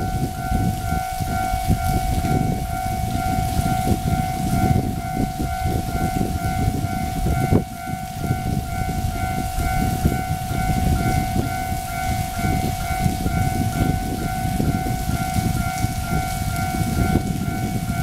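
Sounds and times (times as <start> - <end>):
level crossing warning signal: 0.0 - 18.0.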